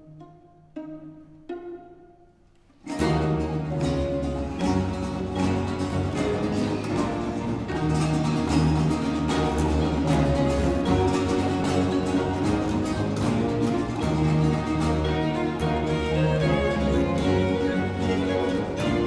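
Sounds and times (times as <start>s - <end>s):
bowed strings: 0.0s - 19.0s
plucked cello notes: 0.0s - 19.0s
strummed guitars: 2.6s - 19.0s.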